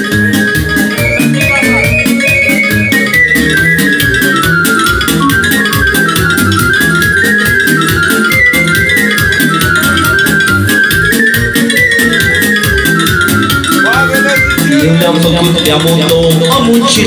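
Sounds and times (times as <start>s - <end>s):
folk song on arranger keyboard: 0.0s - 17.0s.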